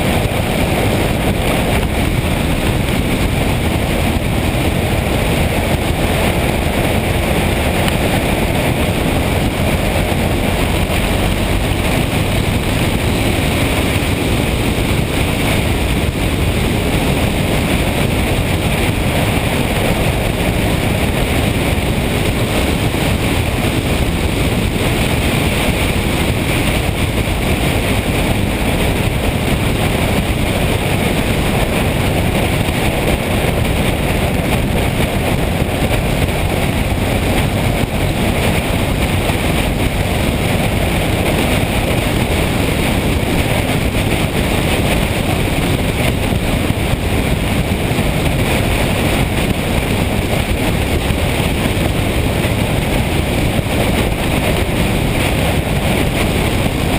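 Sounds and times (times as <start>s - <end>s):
motorcycle engine and road noise: 0.0s - 56.9s
wind on microphone: 0.0s - 56.9s.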